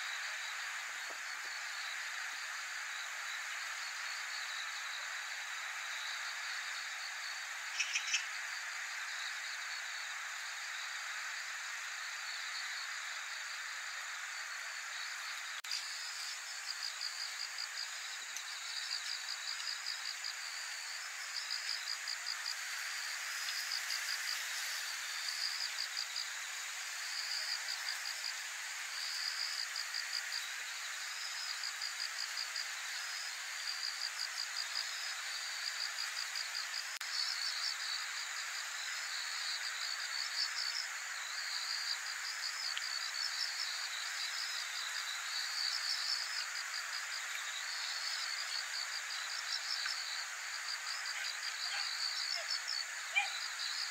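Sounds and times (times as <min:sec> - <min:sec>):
insects chirping: 0:00.0 - 0:53.9
steady high-pitched hiss: 0:00.0 - 0:53.9.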